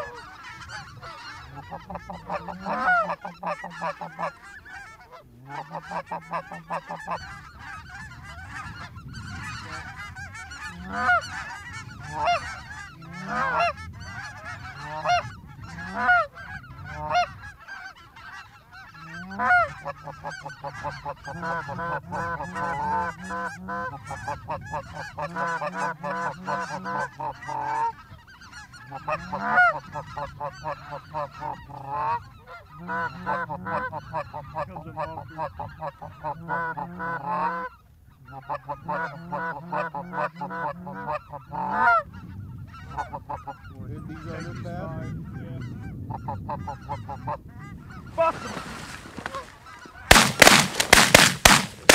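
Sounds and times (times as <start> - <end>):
goose honking and clucking: 0.0 - 51.9.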